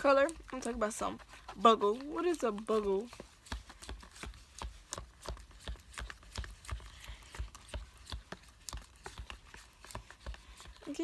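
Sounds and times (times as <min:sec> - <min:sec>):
utensil stirring thick slime: 0:00.0 - 0:11.0.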